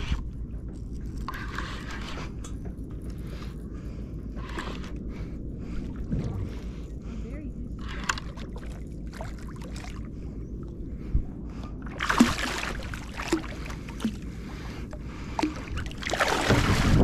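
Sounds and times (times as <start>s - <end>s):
water and wind rumble: 0.0s - 17.0s.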